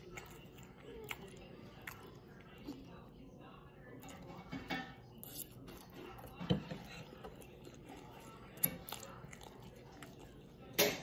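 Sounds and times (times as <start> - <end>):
person chewing food: 0.0 - 3.2, 3.9 - 10.8.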